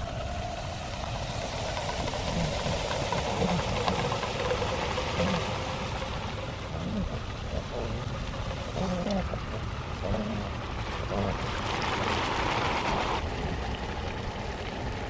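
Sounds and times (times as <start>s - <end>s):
bubbling and small crackles: 0.0s - 15.0s
liquid nitrogen boiling hiss: 0.0s - 15.0s.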